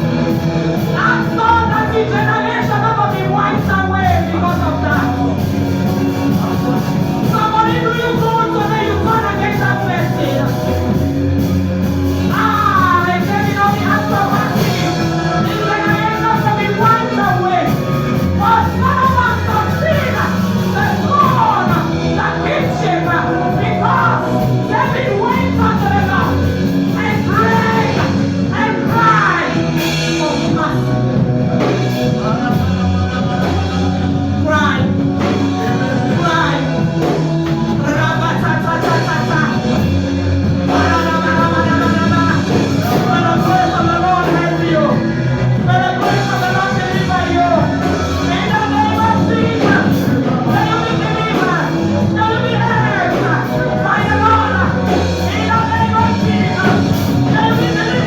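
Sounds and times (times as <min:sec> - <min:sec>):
live band praise song: 0:00.0 - 0:58.0.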